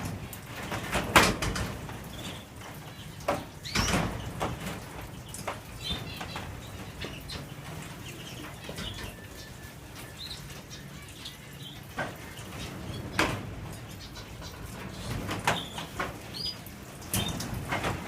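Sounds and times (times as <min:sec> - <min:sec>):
canaries fluttering and hopping: 0:00.0 - 0:18.0.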